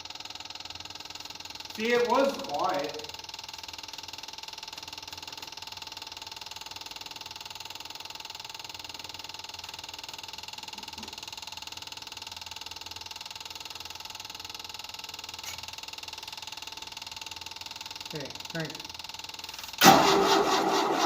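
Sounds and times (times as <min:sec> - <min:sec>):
electric fuel pump buzzing: 0:00.0 - 0:21.0.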